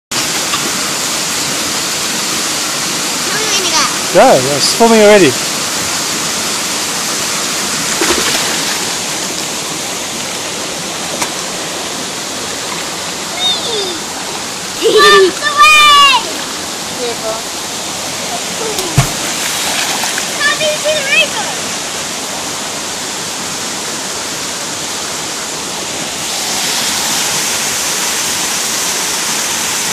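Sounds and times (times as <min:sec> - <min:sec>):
river water rushing: 0:00.1 - 0:29.9.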